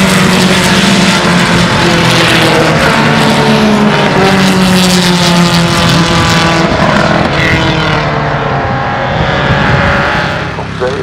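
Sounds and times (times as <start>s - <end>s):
racing cars passing at speed: 0.0s - 11.0s.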